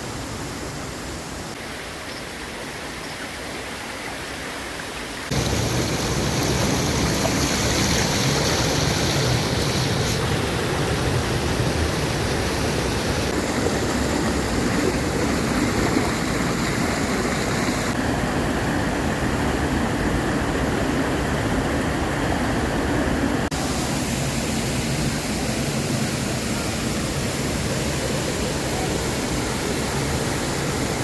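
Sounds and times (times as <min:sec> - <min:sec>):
waterfall rushing: 0:04.6 - 0:31.0.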